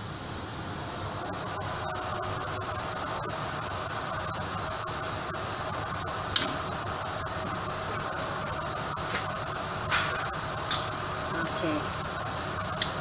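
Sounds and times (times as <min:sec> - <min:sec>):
fan-like shop hiss: 0:00.0 - 0:13.0.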